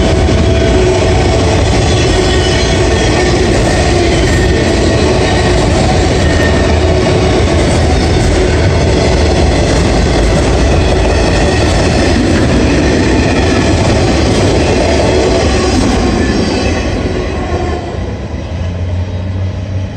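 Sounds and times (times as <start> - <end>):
steel wheels rattling on rails: 0.0 - 18.8.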